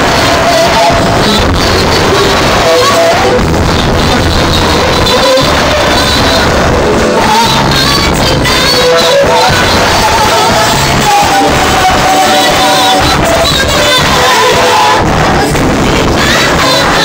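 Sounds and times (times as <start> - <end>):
gospel choir singing: 0.0 - 17.0
woman singing lead: 0.0 - 17.0.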